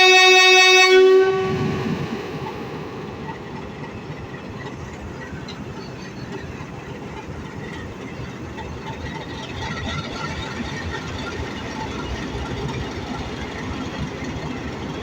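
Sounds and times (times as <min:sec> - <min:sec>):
diesel train running: 0:00.0 - 0:15.0.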